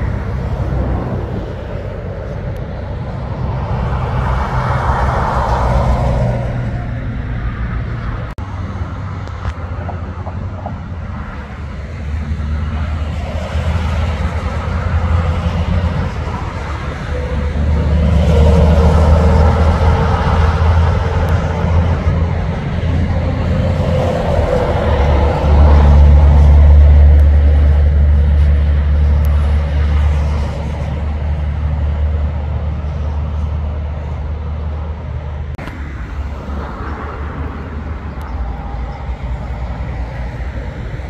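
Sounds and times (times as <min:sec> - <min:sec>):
diesel truck driving past: 0:00.0 - 0:41.0.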